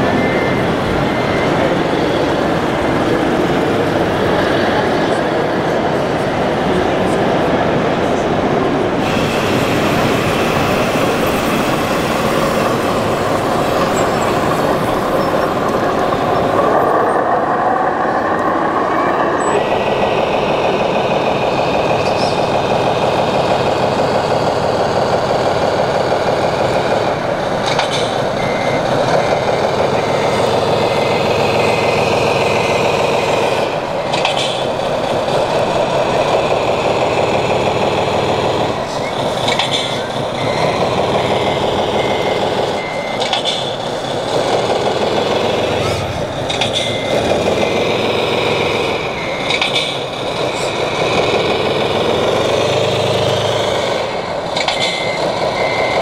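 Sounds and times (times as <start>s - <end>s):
reversing beeper beeps: 0.0s - 4.7s, 9.3s - 27.1s, 27.8s - 56.0s
simulated diesel engine: 0.0s - 56.0s.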